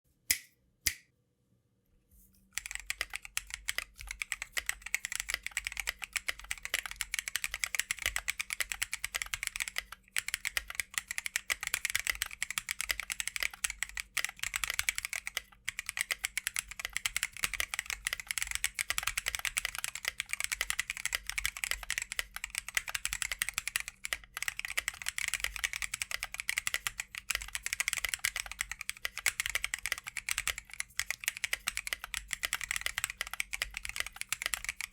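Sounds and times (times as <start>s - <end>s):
fast mechanical keyboard typing: 2.6s - 34.9s.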